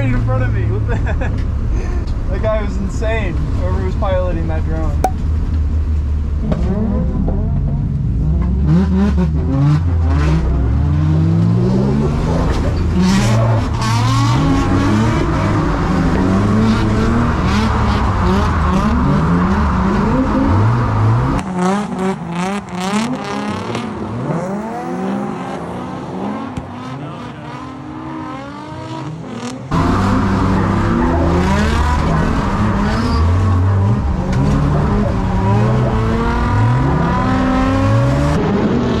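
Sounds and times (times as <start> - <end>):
car engines revving hard: 0.0 - 39.0.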